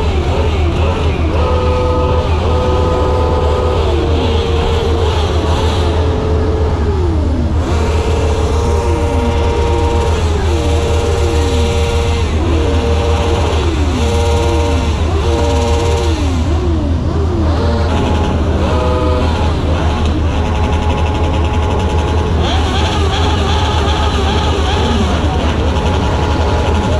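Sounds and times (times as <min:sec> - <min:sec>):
car engines passing by: 0:00.0 - 0:26.9.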